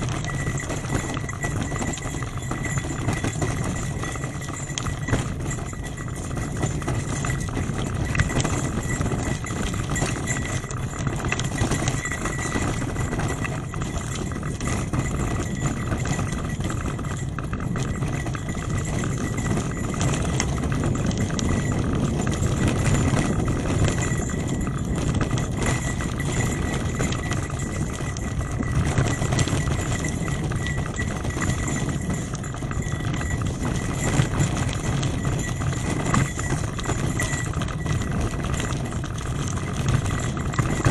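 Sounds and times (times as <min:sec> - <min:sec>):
bicycle tyres rumbling: 0:00.0 - 0:40.9.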